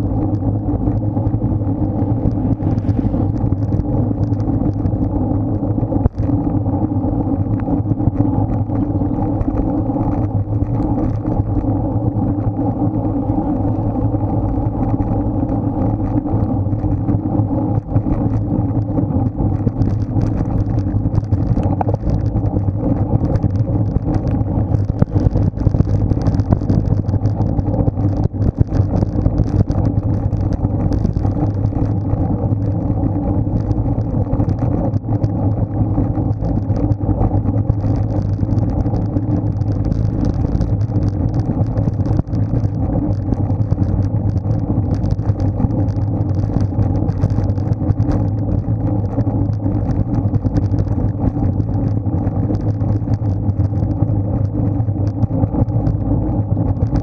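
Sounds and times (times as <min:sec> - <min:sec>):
bicycle tyre road noise: 0:00.0 - 0:57.0
wind on microphone: 0:00.0 - 0:57.0.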